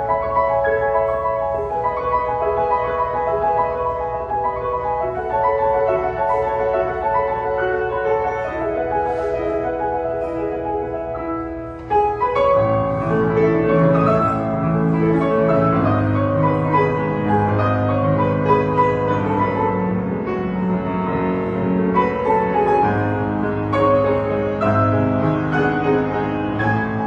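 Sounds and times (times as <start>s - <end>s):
piano background music: 0.0s - 27.0s.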